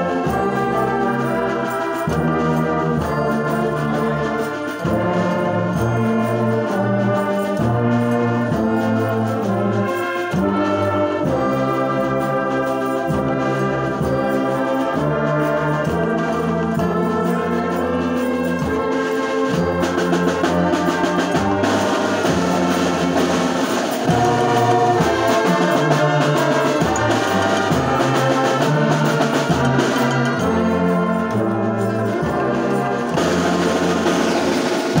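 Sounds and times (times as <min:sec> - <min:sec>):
brass band playing: 0:00.0 - 0:35.0
tubas playing bass line: 0:00.0 - 0:35.0.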